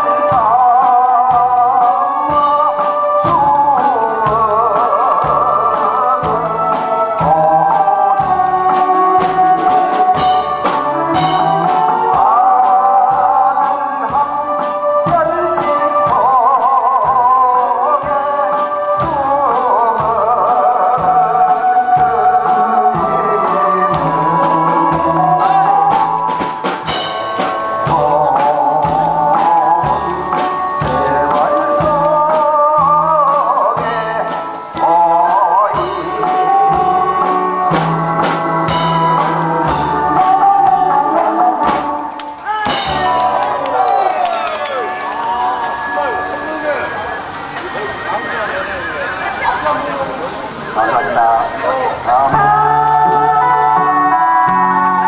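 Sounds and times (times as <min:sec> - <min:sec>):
amplified instrumental accompaniment: 0:00.0 - 0:55.0
man singing with vibrato: 0:00.0 - 0:55.0.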